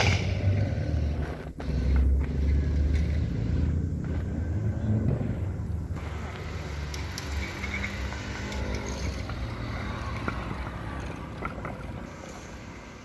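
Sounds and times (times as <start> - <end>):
low traffic rumble: 0.0 - 13.0
motor scooter engine passing: 0.0 - 13.0.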